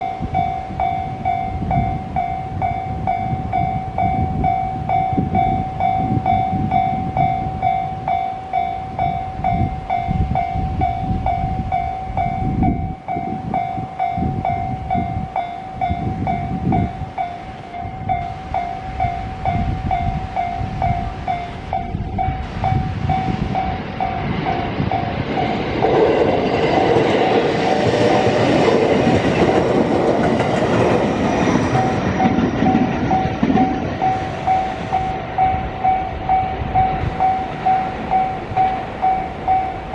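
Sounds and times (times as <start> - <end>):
electric train rumbling: 0.0 - 39.9
level crossing warning bell: 0.0 - 39.9.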